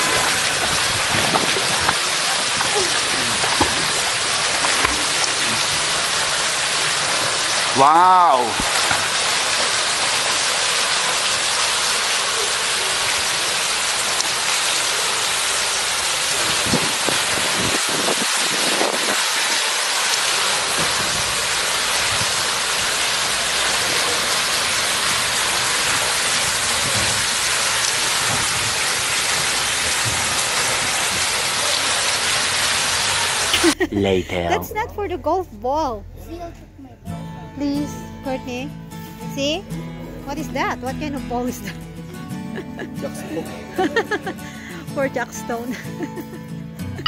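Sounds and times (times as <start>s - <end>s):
churning pool water splashing: 0.0s - 34.6s, 40.5s - 46.3s.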